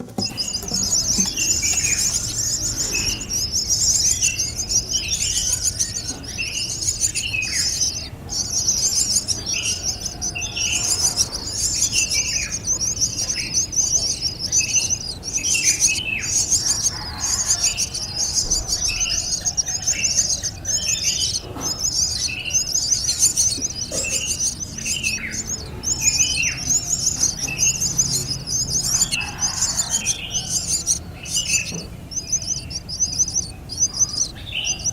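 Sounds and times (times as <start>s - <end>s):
birds chattering: 0.0s - 34.9s.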